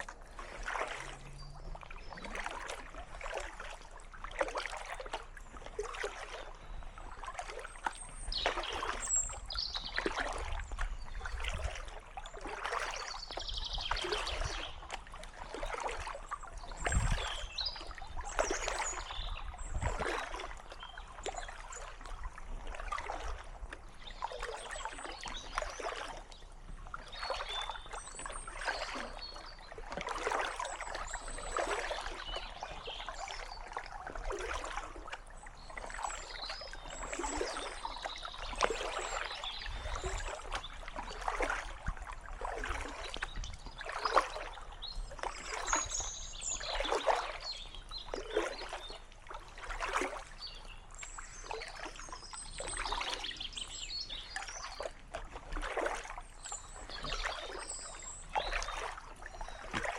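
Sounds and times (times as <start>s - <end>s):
paddle splashing in water: 0.0s - 59.9s
water trickling off paddle: 0.0s - 59.9s.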